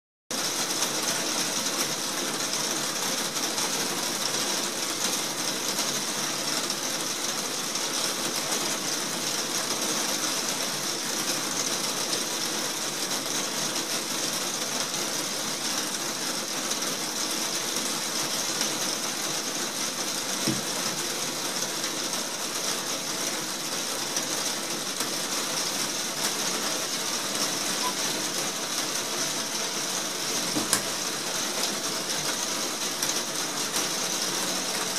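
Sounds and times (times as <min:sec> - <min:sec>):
heavy rain on glass roof: 0:00.3 - 0:34.9.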